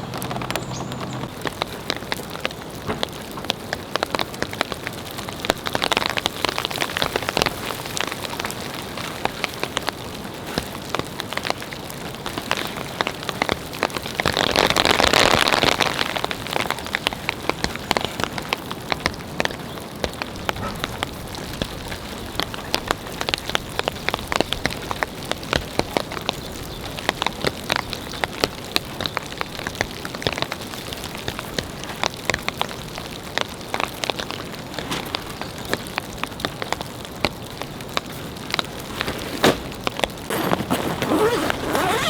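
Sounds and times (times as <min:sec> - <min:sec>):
heavy raindrops striking: 0:00.0 - 0:42.0
rain falling: 0:00.0 - 0:42.0.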